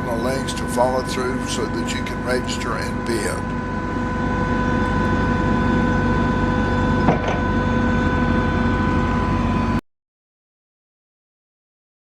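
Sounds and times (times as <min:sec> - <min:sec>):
forklift engine idling: 0:00.0 - 0:09.7.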